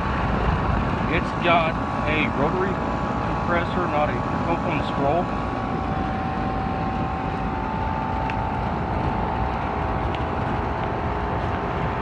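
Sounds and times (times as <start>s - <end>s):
air conditioner rushing air: 0.0s - 12.0s.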